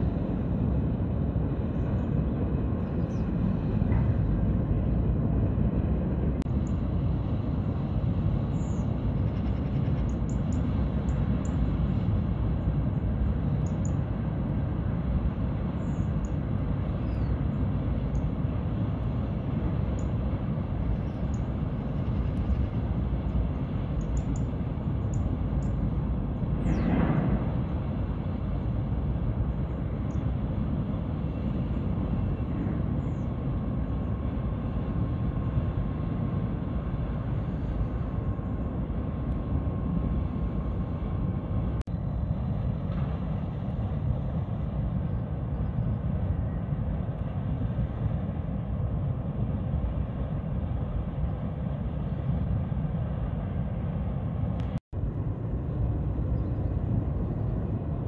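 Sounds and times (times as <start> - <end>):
distant ship and port machinery rumble: 0.0 - 58.0
faint steady whine: 0.0 - 58.0.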